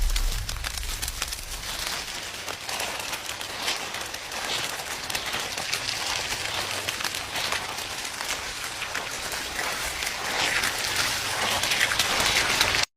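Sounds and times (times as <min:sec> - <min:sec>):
dense patter of tiny clicks: 0:00.0 - 0:12.9.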